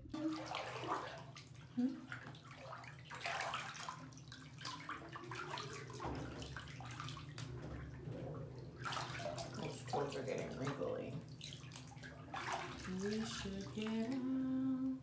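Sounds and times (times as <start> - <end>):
bath water splashing: 0.0 - 15.0.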